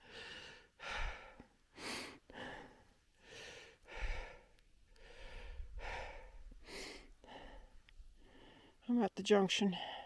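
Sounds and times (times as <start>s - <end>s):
person breathing hard: 0.0s - 8.8s.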